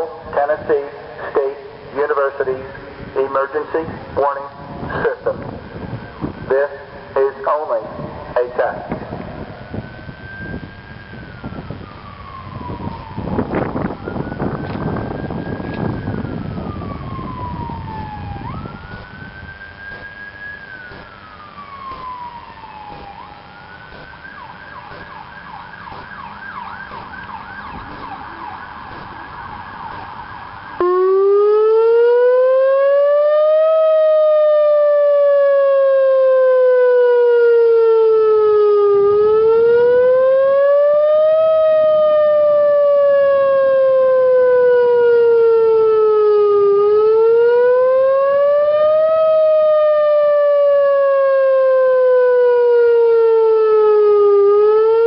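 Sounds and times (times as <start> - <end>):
outdoor warning siren wailing: 0.0 - 55.0
faint wavering siren tones: 9.0 - 55.0.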